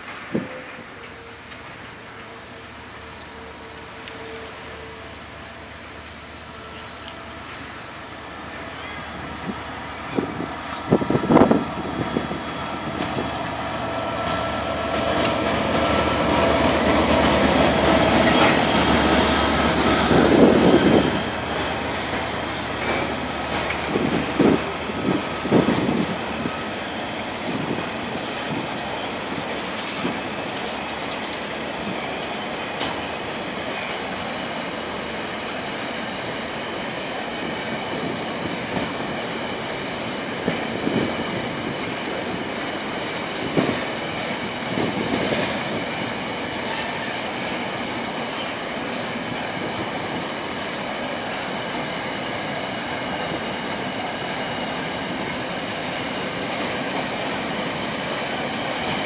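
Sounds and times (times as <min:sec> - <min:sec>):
train wagons rumbling on rails: 0:00.0 - 0:59.0.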